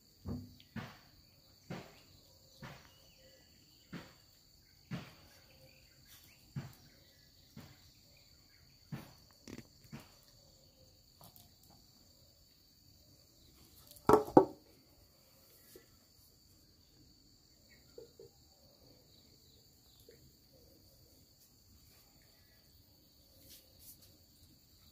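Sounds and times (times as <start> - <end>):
insects chirring: 0.0 - 24.9.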